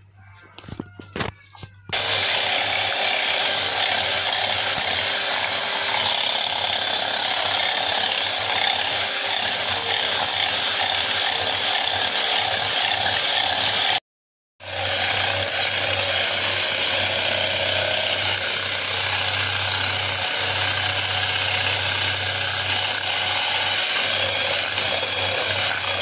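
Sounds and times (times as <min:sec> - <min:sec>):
electric hand mixer whisking: 0:01.9 - 0:14.0, 0:14.6 - 0:26.0.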